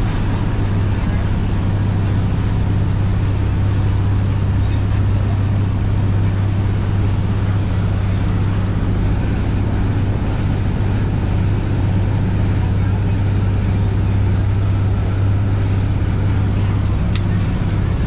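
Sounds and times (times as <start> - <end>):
boat engine humming: 0.0 - 18.0
water rushing: 0.0 - 18.0.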